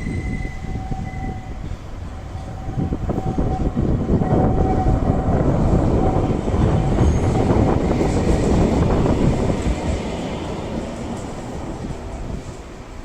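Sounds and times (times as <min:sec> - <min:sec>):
tram rattling on rails: 0:00.0 - 0:13.0.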